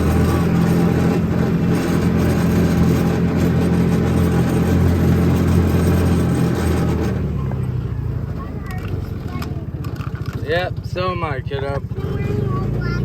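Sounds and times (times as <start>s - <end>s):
small vehicle engine running: 0.0s - 13.0s.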